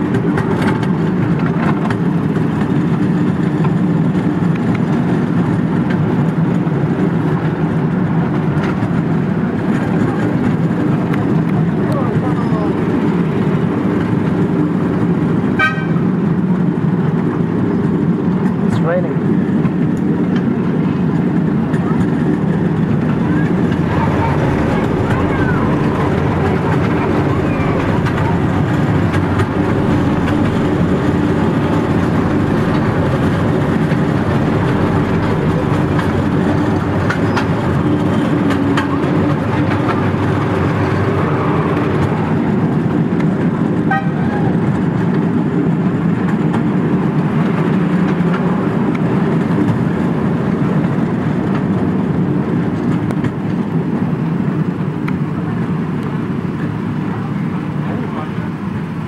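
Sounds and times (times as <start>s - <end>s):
small train wheels rumbling and rattling: 0.0s - 59.0s.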